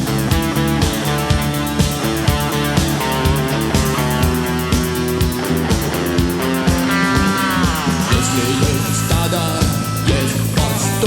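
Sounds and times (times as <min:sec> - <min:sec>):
drums and bass beat: 0:00.0 - 0:11.0
lead guitar sliding down: 0:00.0 - 0:11.0
sustained guitar lines: 0:00.0 - 0:11.0.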